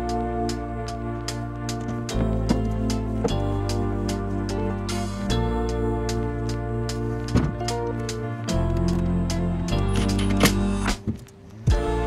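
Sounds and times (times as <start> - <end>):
music with held chords and beat: 0.0 - 12.0.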